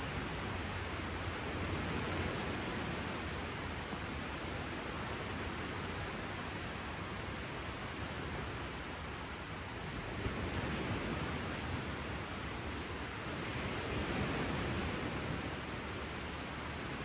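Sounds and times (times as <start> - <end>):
lake waves on shore: 0.0 - 17.0.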